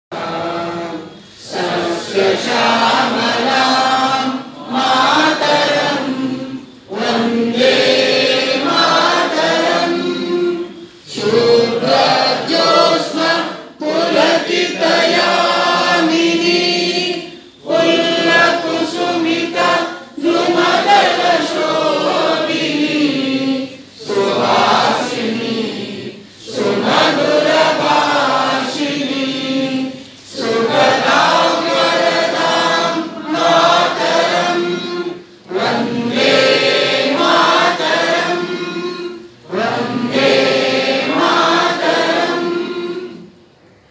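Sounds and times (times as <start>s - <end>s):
group singing in unison: 0.1s - 43.6s.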